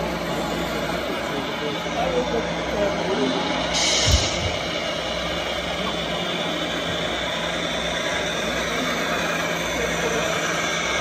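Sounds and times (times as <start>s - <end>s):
hall background noise: 0.0s - 11.0s.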